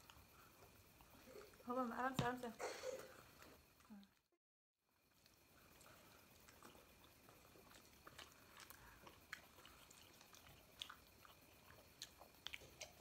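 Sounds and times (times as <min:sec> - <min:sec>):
people chewing: 0:00.0 - 0:01.6, 0:02.9 - 0:04.2, 0:05.1 - 0:13.0.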